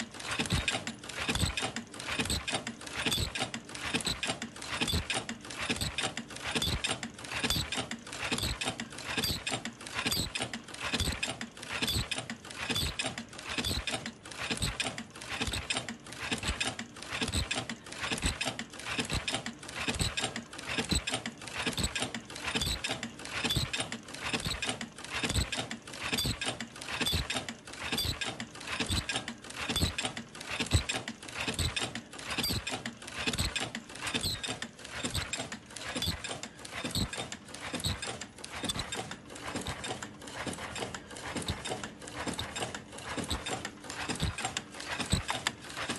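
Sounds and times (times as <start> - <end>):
machine rhythmic clatter: 0.0 - 45.9.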